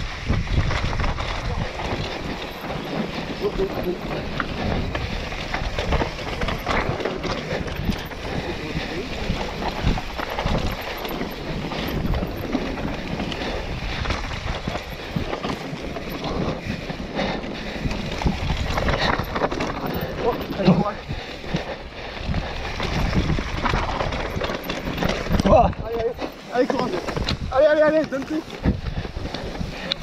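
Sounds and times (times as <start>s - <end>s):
bike rattling and knocking: 0.0s - 30.0s
tyres on dirt: 0.0s - 30.0s
wind buffeting microphone: 0.0s - 30.0s.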